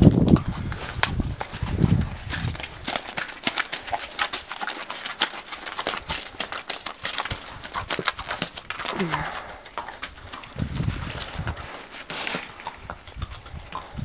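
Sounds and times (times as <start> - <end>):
horse hooves on gravel: 0.0 - 14.0.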